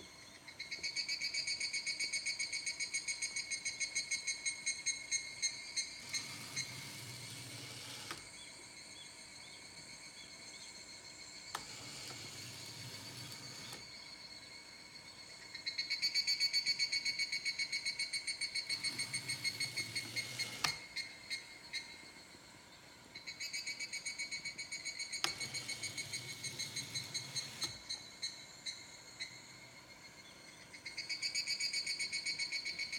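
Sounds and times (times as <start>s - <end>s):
faint chirps: 0.0s - 32.9s.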